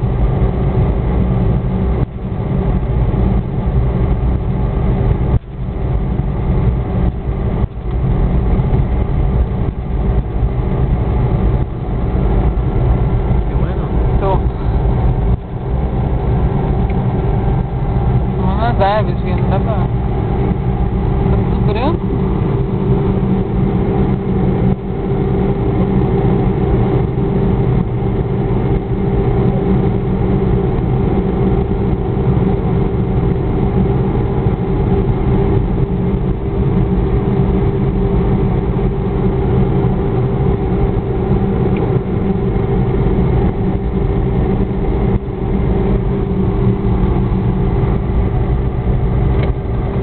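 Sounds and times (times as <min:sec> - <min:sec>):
car engine running: 0:00.0 - 0:50.0
road noise: 0:00.0 - 0:50.0.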